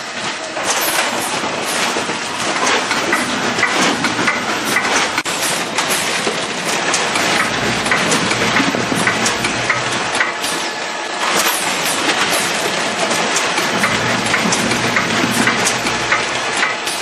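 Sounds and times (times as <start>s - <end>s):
low machine hum: 0.0s - 17.0s
machine clicks and knocks: 0.2s - 17.0s.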